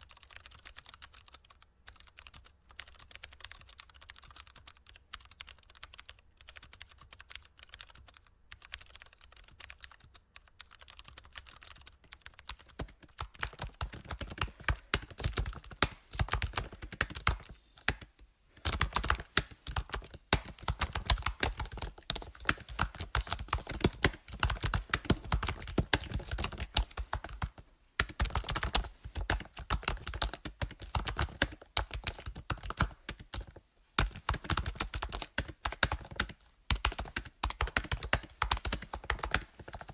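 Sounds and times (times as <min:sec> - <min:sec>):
keyboard typing clicks: 0:00.2 - 0:39.9.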